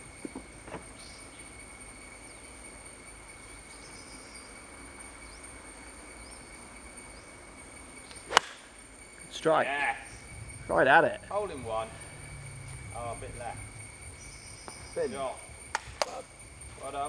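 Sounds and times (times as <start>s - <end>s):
faint hiss: 0.0s - 17.0s
insect drone: 0.0s - 17.0s.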